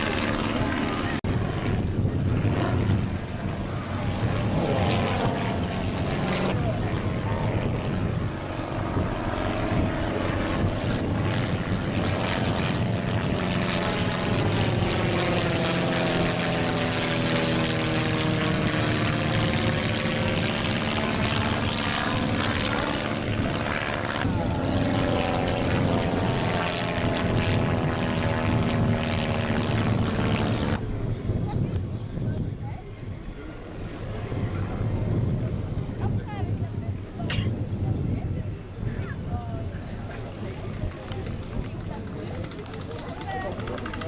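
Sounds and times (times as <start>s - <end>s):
propeller aircraft droning past: 0.0s - 44.0s.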